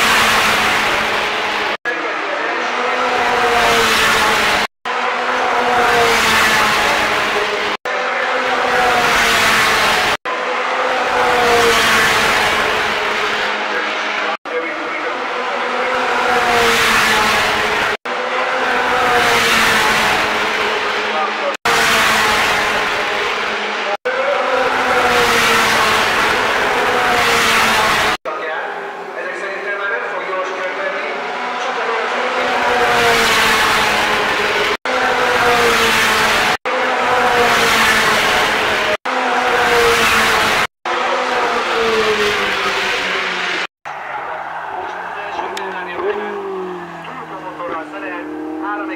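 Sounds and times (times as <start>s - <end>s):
race car engine passing at high revs: 0.0s - 48.9s.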